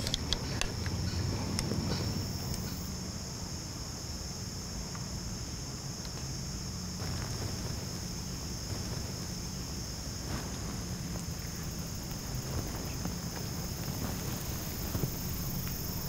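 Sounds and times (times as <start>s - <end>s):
faint ticks and rustles: 0.0s - 3.0s, 5.8s - 16.0s
insects trilling: 0.0s - 16.0s.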